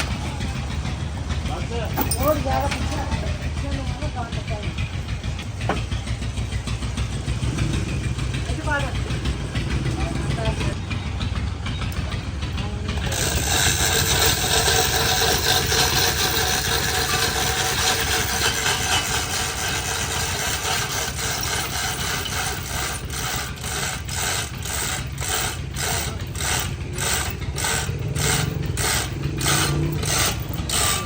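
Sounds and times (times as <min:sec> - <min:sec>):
machinery whirring: 0:00.0 - 0:31.0
regular mechanical clatter: 0:00.0 - 0:31.0.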